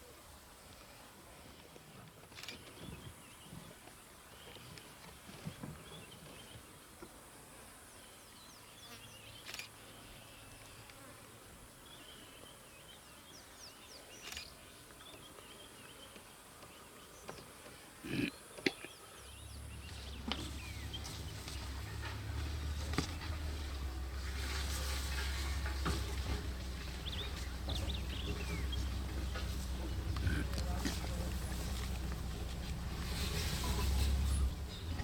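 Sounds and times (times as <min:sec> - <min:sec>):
insects buzzing and chirping: 0:05.8 - 0:35.0.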